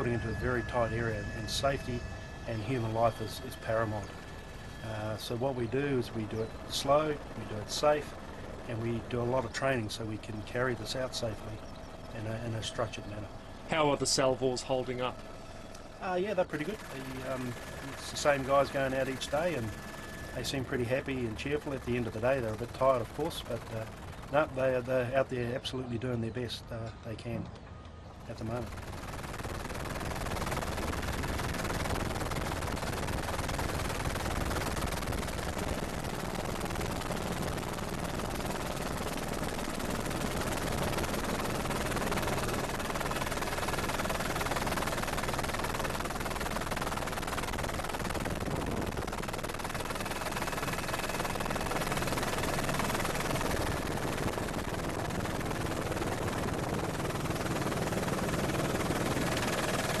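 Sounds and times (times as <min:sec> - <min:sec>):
faint whine: 0:00.0 - 1:00.0
helicopter rotors and engine: 0:00.0 - 1:00.0.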